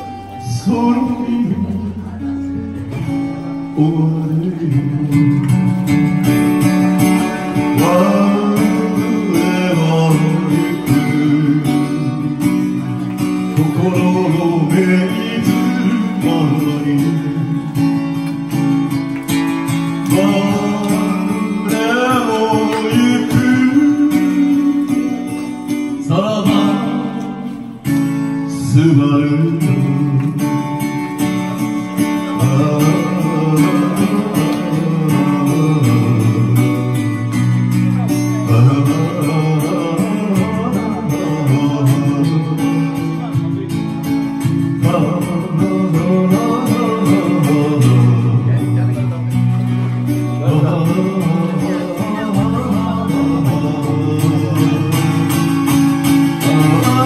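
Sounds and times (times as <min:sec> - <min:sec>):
acoustic guitar: 0:00.0 - 0:57.0
man singing into a microphone: 0:00.0 - 0:57.0.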